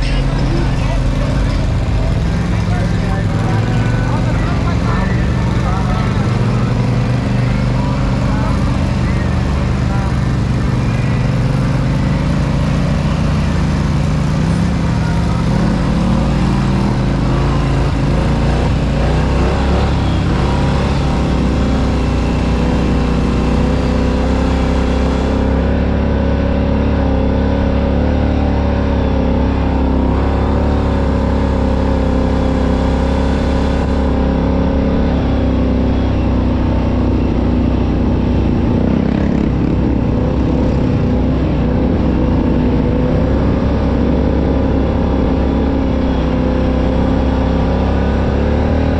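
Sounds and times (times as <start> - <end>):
off-road vehicle engine running: 0.0 - 48.9.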